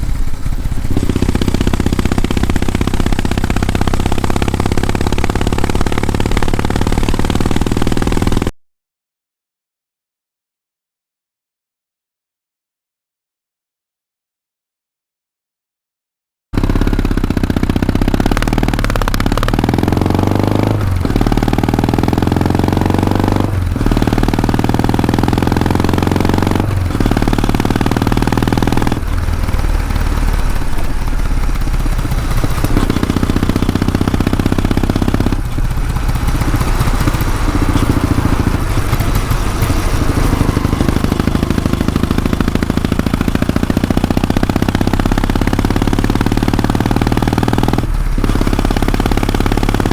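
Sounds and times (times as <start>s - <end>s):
motorcycle engine and exhaust: 0.0s - 8.6s, 16.6s - 49.9s.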